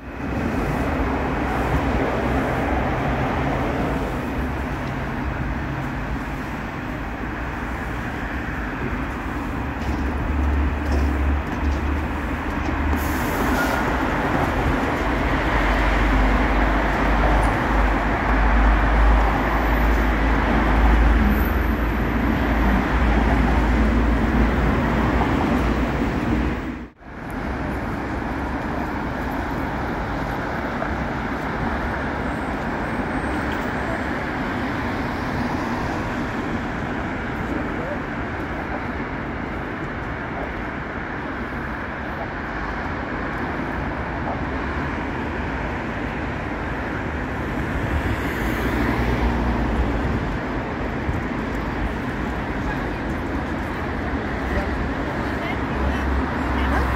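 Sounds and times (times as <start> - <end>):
urban traffic rumble: 0.0 - 56.9.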